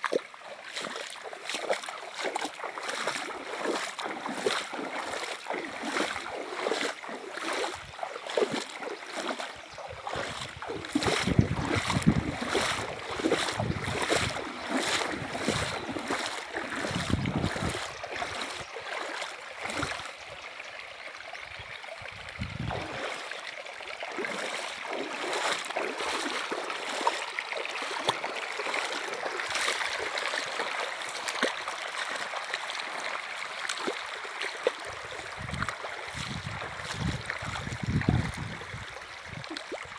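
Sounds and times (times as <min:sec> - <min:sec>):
water splashing: 0:00.0 - 0:20.5, 0:21.8 - 0:39.9
running river water: 0:00.0 - 0:39.9.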